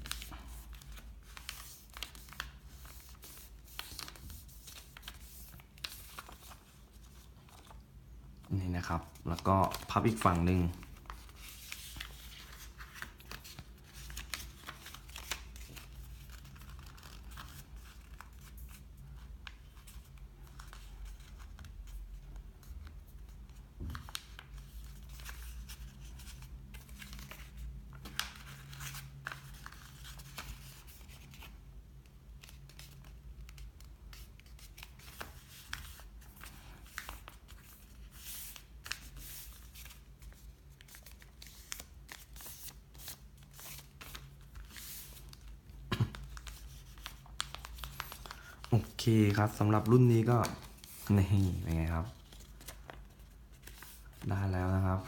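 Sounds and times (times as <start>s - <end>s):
paper rustling and creasing: 0.0s - 8.2s, 8.8s - 31.6s, 32.4s - 55.0s.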